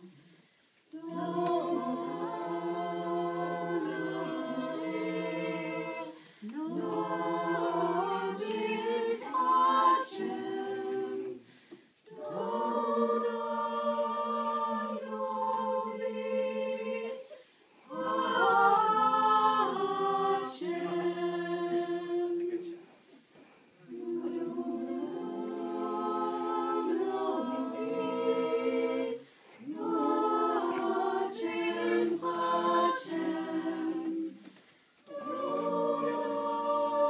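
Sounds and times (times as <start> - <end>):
voices singing a cappella: 0.9 - 23.0, 23.8 - 37.0.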